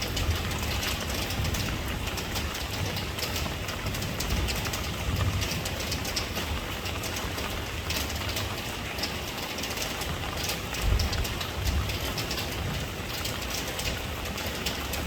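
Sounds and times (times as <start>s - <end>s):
rain falling: 0.0s - 15.0s
sharp raindrop ticks: 0.0s - 15.0s.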